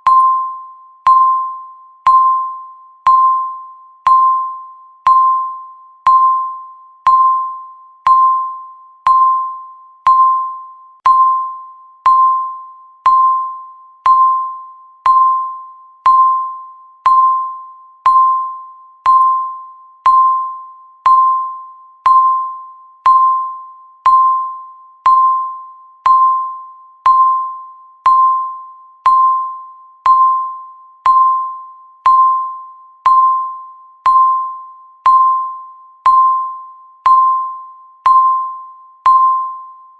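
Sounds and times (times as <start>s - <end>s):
timer beeping bell-like tone: 0.0s - 39.9s.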